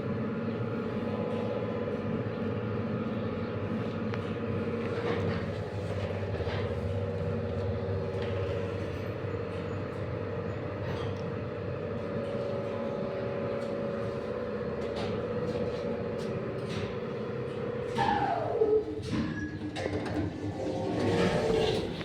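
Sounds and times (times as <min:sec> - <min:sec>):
elevator car rumble: 0:00.0 - 0:22.0
elevator motor hum: 0:00.0 - 0:22.0.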